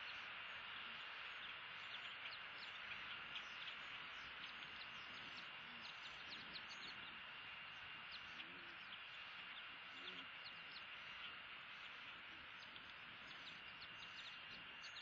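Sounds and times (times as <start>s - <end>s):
high downward-sliding bird chirps: 0.0s - 15.0s
steady hiss: 0.0s - 15.0s.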